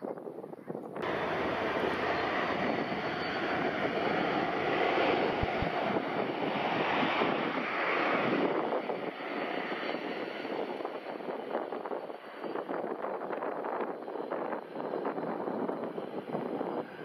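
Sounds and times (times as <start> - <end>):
jet engine roar: 1.0 - 17.0.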